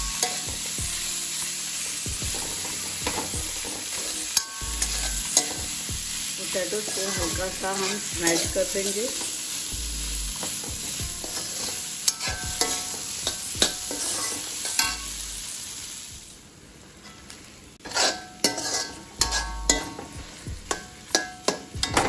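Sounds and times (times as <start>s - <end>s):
hot oil sizzling: 0.0s - 22.0s
spatula scraping a pan: 0.1s - 9.7s, 10.4s - 15.1s, 17.8s - 22.0s.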